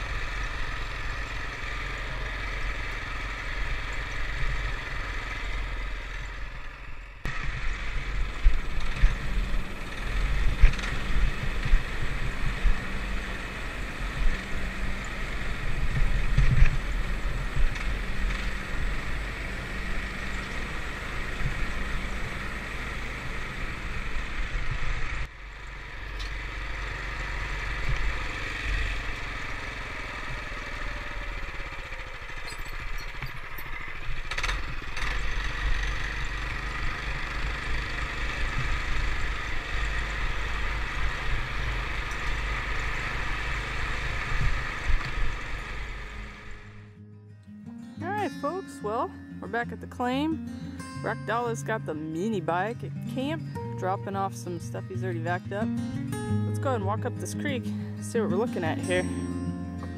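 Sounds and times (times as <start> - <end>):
off-road vehicle engine running: 0.0 - 47.0, 48.0 - 59.9.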